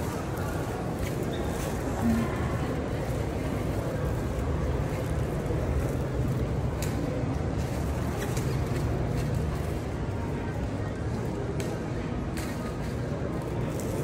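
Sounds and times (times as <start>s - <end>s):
shopping mall background rumble: 0.0s - 14.0s.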